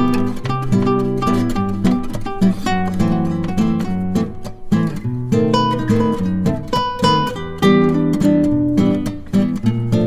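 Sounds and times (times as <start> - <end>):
acoustic guitar strummed and plucked: 0.0 - 10.0.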